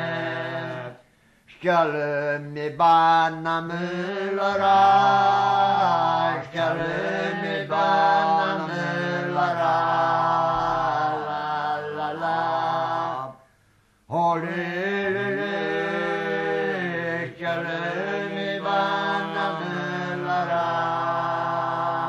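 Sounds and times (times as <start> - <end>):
folk song sung chant-like: 0.0 - 13.5, 14.1 - 22.0.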